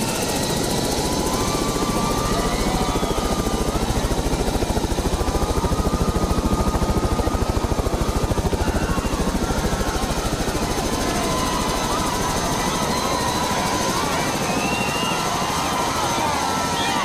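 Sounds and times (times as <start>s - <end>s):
helicopter rotor chopping: 0.0s - 17.0s.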